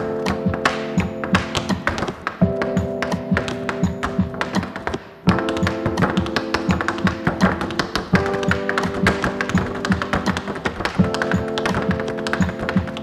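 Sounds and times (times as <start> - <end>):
music with held chords: 0.0 - 13.0
tap shoes on wooden board: 0.2 - 13.0.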